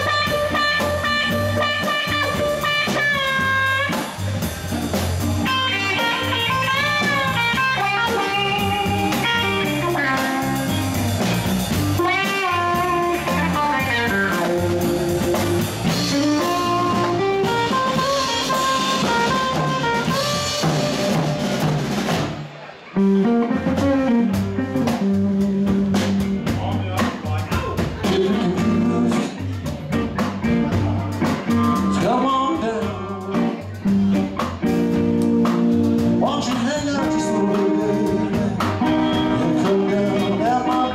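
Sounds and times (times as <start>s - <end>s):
electric guitar lead: 0.0s - 26.6s, 27.8s - 40.9s
bass: 0.0s - 40.9s
drum kit: 0.0s - 40.9s.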